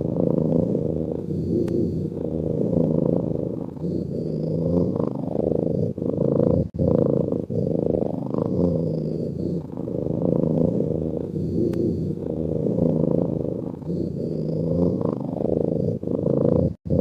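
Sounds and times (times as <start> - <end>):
cat snoring: 0.0 - 17.0.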